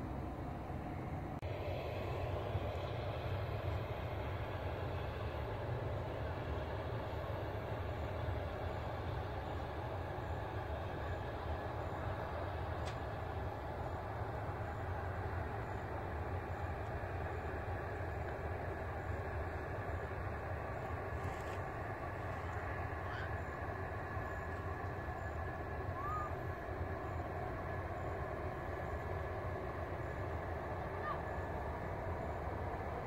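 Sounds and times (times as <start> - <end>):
airport low rumble: 0.0 - 33.0.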